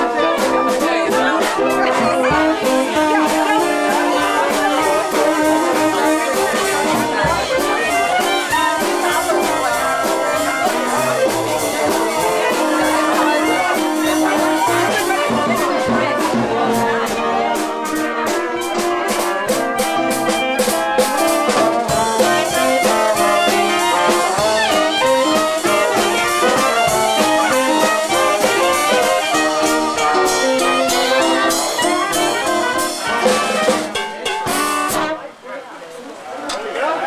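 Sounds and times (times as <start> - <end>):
drum beats: 0.0 - 35.4
horn section playing: 0.0 - 35.4
live band playing: 0.0 - 35.4.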